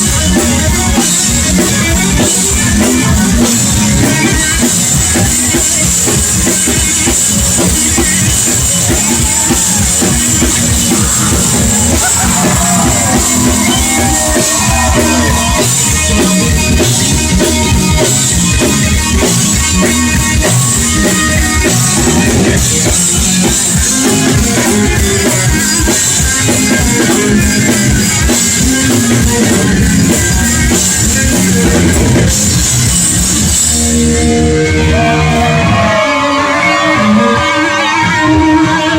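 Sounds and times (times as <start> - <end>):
busy drum kit: 0.0 - 36.8
electric guitar with bent notes: 0.0 - 38.9.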